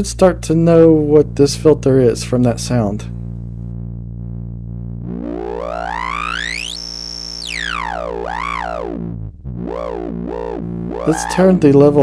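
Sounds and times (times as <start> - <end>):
low square-wave note: 0.0 - 12.0
resonant filter whistle sweeping: 2.2 - 11.8.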